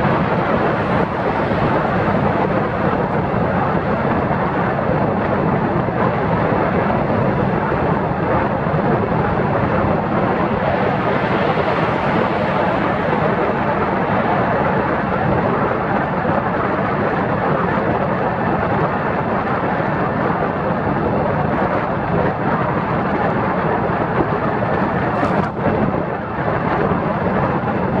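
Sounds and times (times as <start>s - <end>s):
wind and road noise: 0.0s - 28.0s
wind buffeting microphone: 0.0s - 28.0s.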